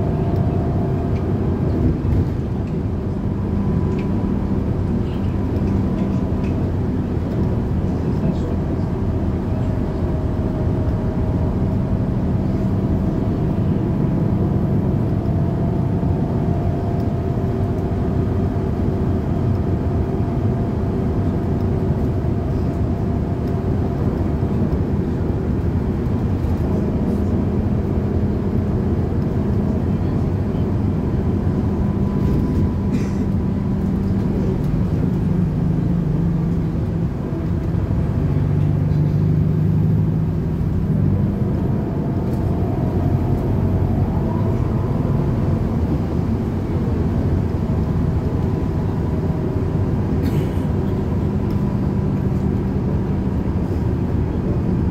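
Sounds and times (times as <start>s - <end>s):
bus engine drone: 0.0s - 54.9s
road and tyre noise: 0.0s - 54.9s.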